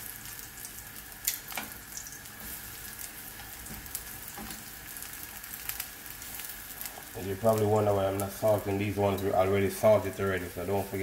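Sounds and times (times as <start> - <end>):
breadfruit sizzling in frying oil: 0.0 - 11.0.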